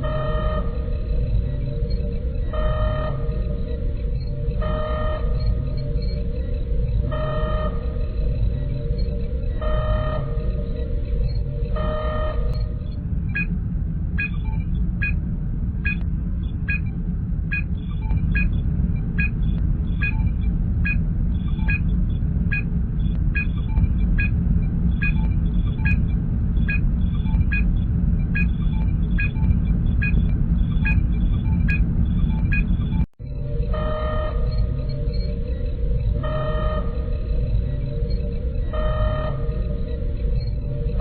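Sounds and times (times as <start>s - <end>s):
high computer chirp: 0.0s - 13.6s, 14.2s - 15.2s, 15.8s - 41.0s
low engine hum: 0.0s - 41.0s.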